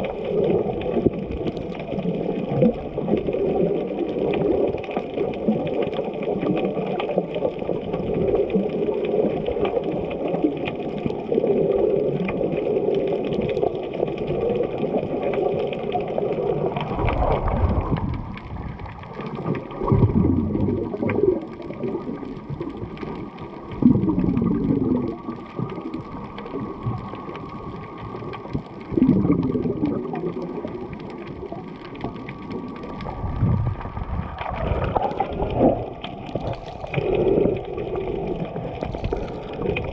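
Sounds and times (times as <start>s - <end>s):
muffled water sloshing and gurgling: 0.0s - 39.9s.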